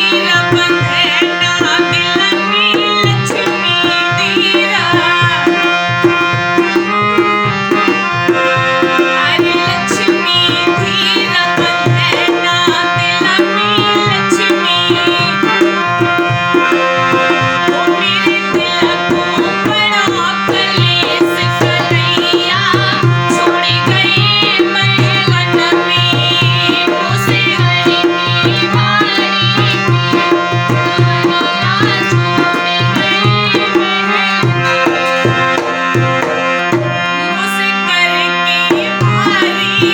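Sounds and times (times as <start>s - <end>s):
tabla playing: 0.0s - 39.9s.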